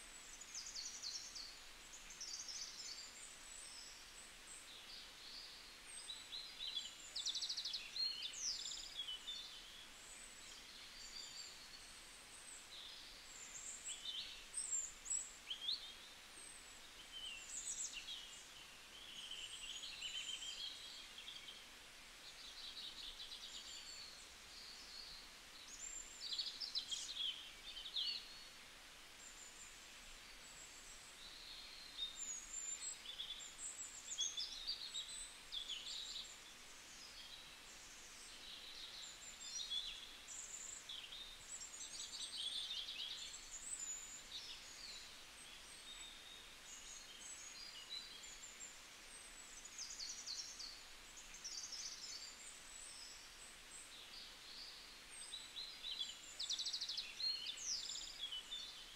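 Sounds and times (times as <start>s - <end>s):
faint steady hiss: 0.0s - 58.9s
small birds chirping: 0.0s - 58.9s.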